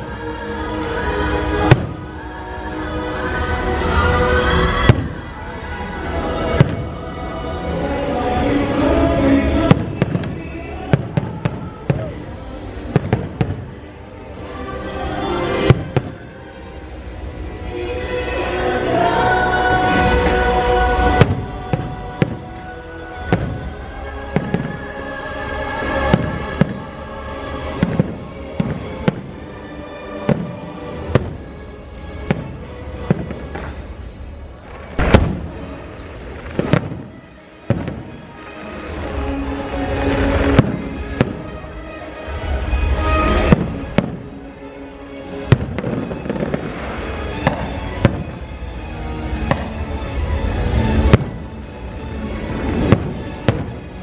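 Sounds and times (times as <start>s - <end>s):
music: 0.0s - 54.0s
fireworks bangs and crackles: 1.3s - 2.3s, 3.4s - 14.1s, 15.4s - 16.4s, 19.8s - 25.0s, 25.8s - 44.5s, 45.2s - 54.0s.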